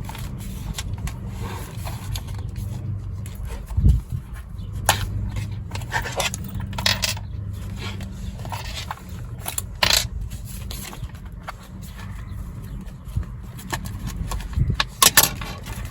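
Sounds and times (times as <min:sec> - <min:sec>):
paper scraping and rustling: 0:00.0 - 0:15.9
steady low hum: 0:00.0 - 0:15.9.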